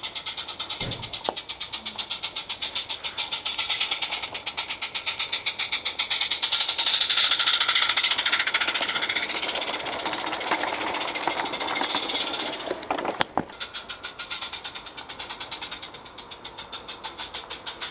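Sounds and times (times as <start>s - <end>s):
model steam train running past: 0.0s - 17.9s.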